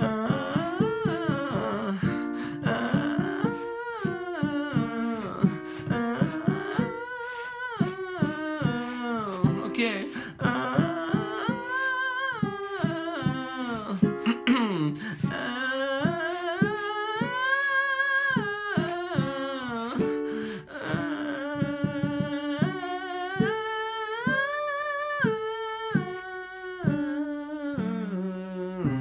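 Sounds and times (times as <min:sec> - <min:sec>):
man singing vocal scales: 0:00.0 - 0:27.1.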